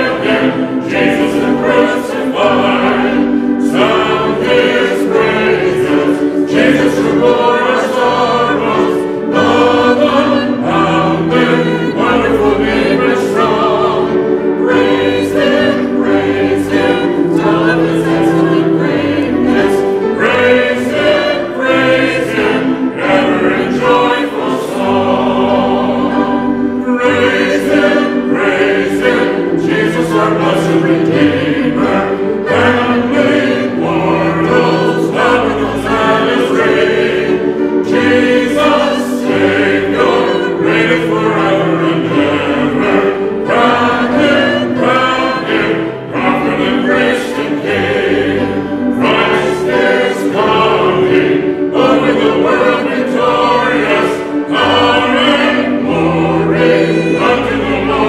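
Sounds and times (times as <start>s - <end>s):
amplified voice singing: 0.0s - 58.0s
choir singing a hymn: 0.0s - 58.0s.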